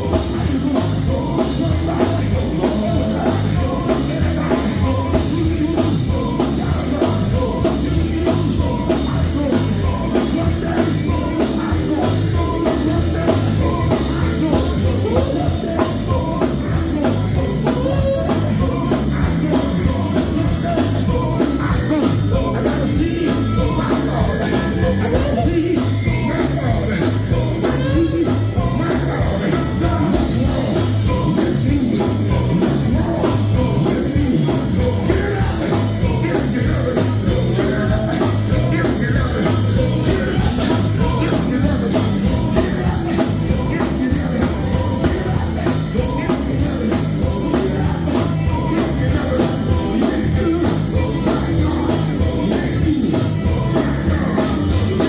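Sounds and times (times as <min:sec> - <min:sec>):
drum kit: 0:00.0 - 0:55.0
live gospel band playing: 0:00.0 - 0:55.0
people singing: 0:00.0 - 0:55.0.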